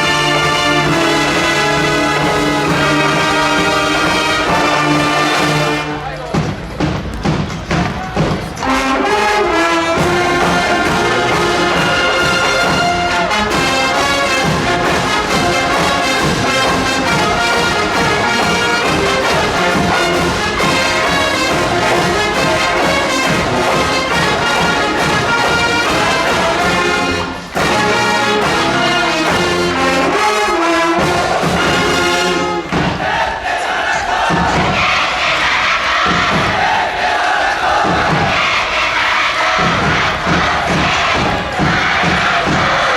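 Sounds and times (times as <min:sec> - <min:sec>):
brass band playing: 0:00.0 - 0:06.3, 0:08.4 - 0:42.9.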